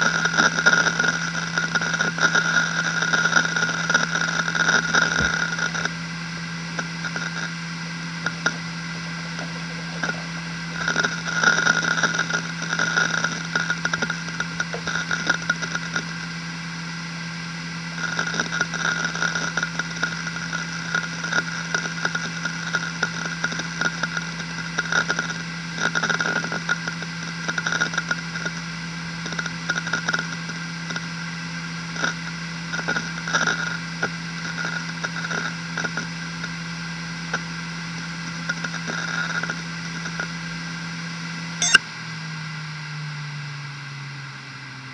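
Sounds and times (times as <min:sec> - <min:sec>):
hard drive seek clicks: 0:00.0 - 0:40.8
hard drive humming: 0:00.0 - 0:42.0.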